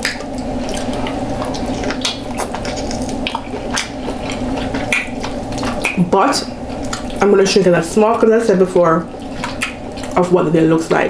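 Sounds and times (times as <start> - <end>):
steady low hum: 0.0 - 11.0
wet chewing and lip-smacking: 0.0 - 11.0.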